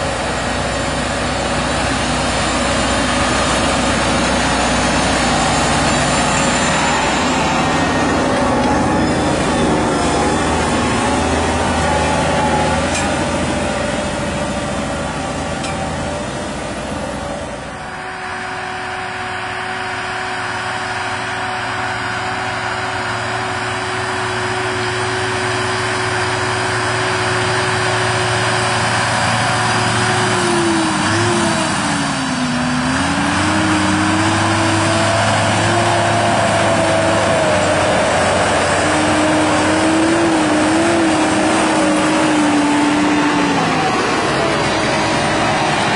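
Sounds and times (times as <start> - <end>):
tractor engine under load: 0.0 - 45.9.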